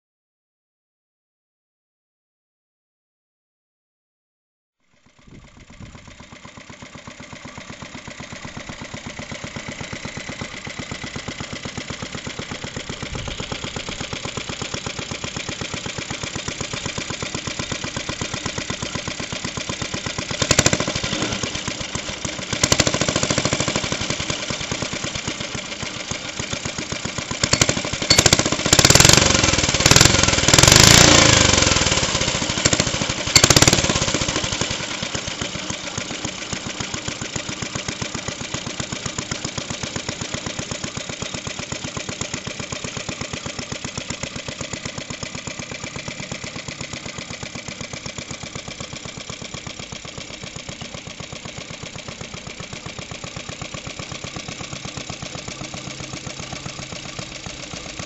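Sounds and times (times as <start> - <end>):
mower engine running and revving: 5.2 - 58.0.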